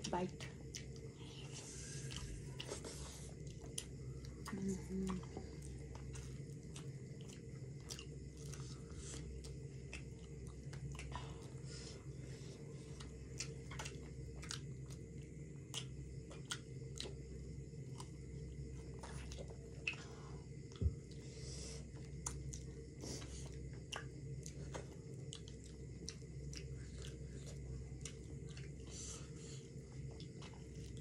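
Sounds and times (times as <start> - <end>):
steady low hum: 0.0 - 31.0
close chewing and biting: 1.8 - 21.2, 21.9 - 31.0.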